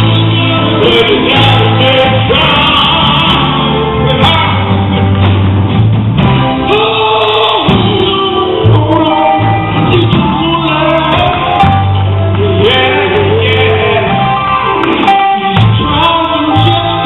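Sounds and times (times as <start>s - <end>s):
men singing gospel: 0.0s - 4.9s, 6.6s - 17.0s
band with steady bass line: 0.0s - 17.0s.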